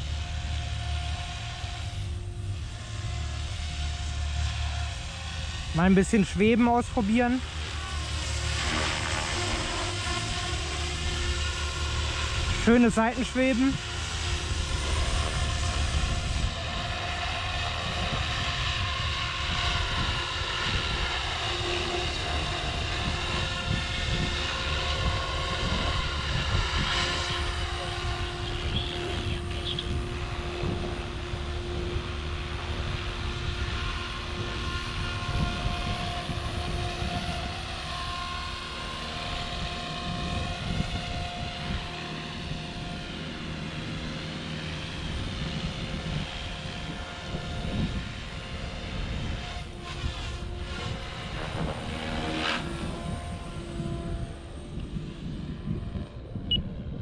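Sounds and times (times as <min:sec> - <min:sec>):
rc helicopter rotor whine: 0:00.0 - 0:57.0.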